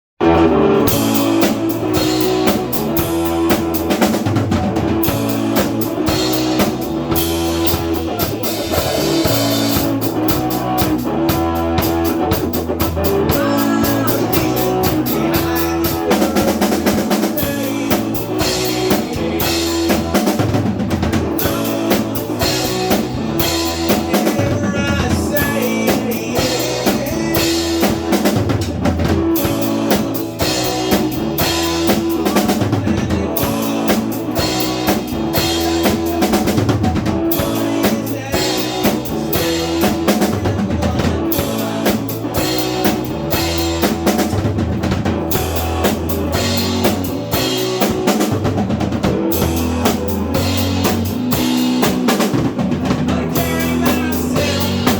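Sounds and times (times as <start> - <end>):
band playing: 0.2 - 54.9
drum kit beat: 0.2 - 54.9
low bass notes: 0.2 - 54.9.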